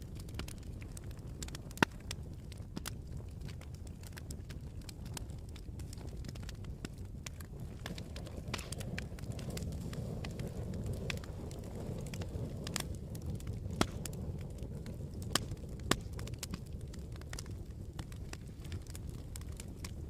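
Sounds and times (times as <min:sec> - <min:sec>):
campfire crackles and pops: 0:00.0 - 0:20.0
low rush of burning: 0:00.0 - 0:20.0.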